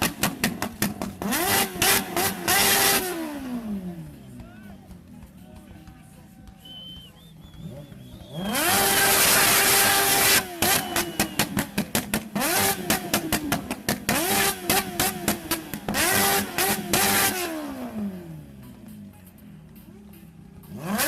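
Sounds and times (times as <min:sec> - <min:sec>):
motorcycle engine revving: 0:00.0 - 0:04.5, 0:07.3 - 0:21.0.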